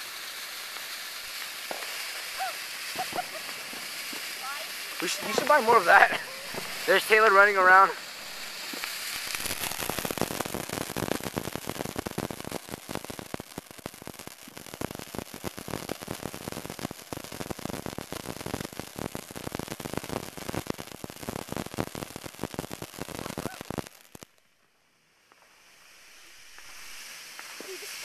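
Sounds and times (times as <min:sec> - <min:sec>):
firework fountain crackling: 0:00.0 - 0:28.0
firework fountain hissing: 0:00.0 - 0:28.0.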